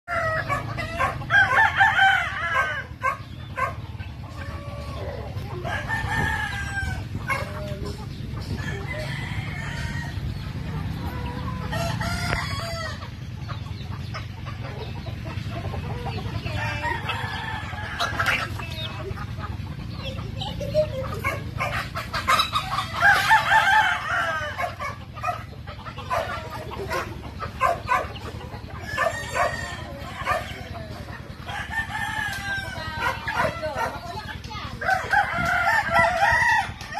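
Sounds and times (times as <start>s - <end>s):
chickens clucking: 0.0s - 36.9s
roosters crowing: 0.0s - 36.9s.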